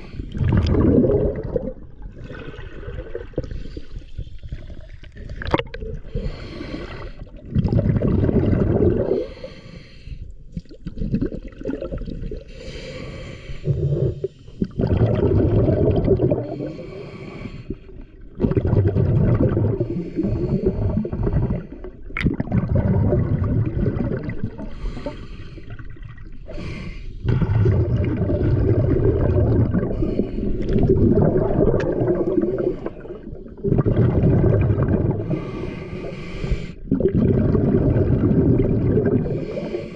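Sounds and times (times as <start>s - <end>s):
underwater gurgling: 0.0s - 39.9s
diver exhaling bubbles underwater: 0.1s - 9.5s, 10.6s - 12.6s, 13.6s - 17.0s, 18.3s - 39.9s.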